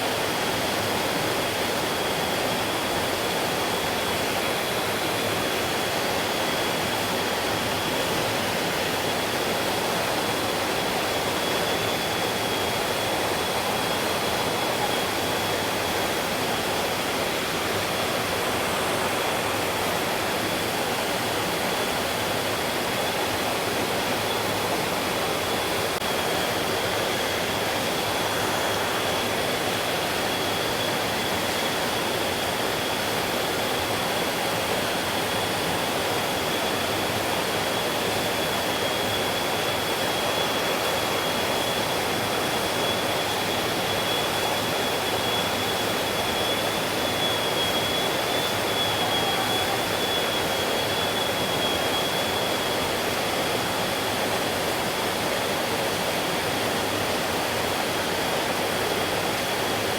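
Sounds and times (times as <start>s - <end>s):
thin steady high tone: 5.3s - 59.9s.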